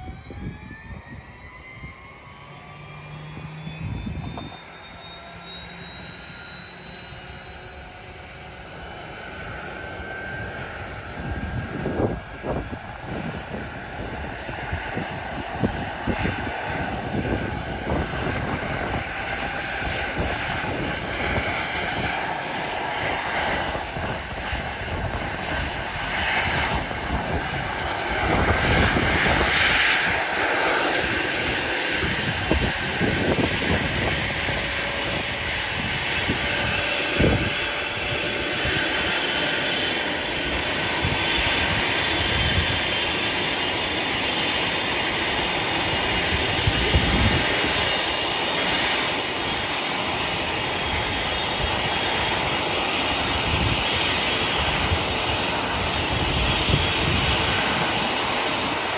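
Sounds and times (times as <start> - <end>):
helicopter rotor noise: 0.0 - 58.9
turbine whine rising in pitch: 0.0 - 58.9.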